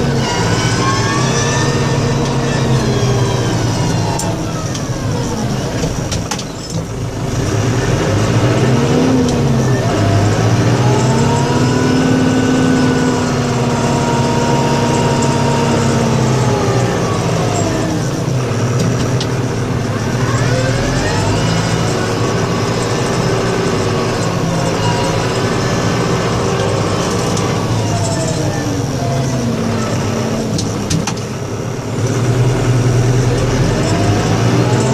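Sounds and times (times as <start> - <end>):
snowplow engine running: 0.0 - 34.9.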